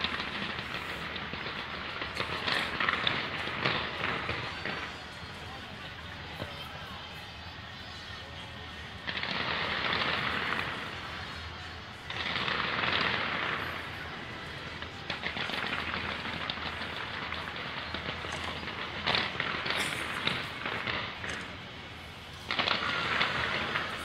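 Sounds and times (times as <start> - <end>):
fireworks bangs: 0.0 - 24.0
fireworks crackling and popping: 0.0 - 24.0
fireworks hissing: 0.0 - 24.0.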